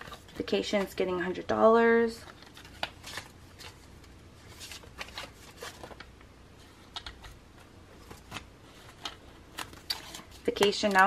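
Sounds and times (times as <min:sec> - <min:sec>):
paper banknotes rustling: 0:02.0 - 0:11.0.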